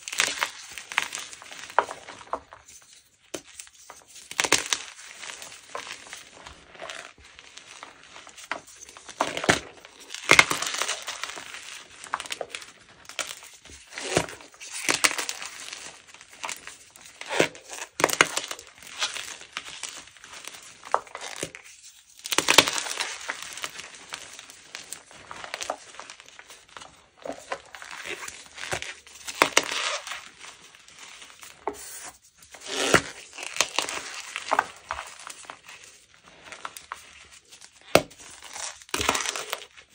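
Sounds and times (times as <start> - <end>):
chalk crunching: 0.1 - 39.7.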